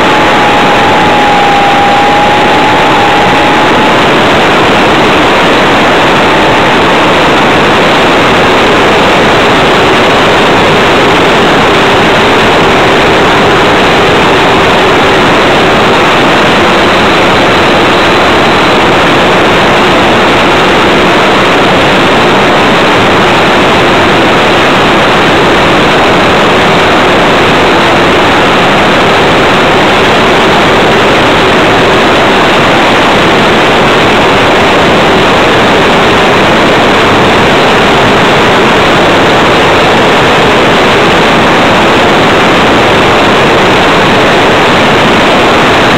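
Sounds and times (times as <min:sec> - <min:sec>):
rush of propeller and wind: 0:00.0 - 0:45.9.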